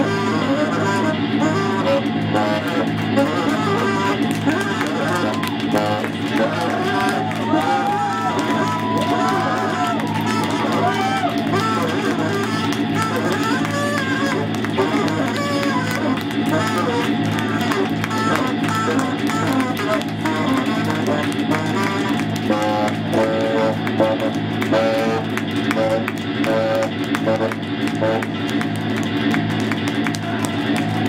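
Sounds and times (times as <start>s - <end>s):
guitar: 0.0s - 31.0s
low bass drone: 0.0s - 31.0s
saxophone melody: 0.0s - 31.0s.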